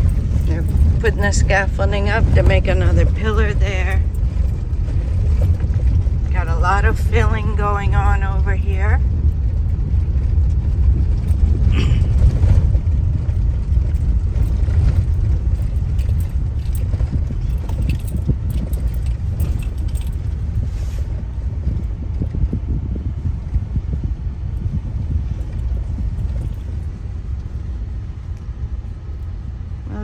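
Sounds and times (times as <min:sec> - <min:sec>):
car rattles and knocks: 0:00.0 - 0:29.7
car road rumble inside cabin: 0:00.0 - 0:30.0.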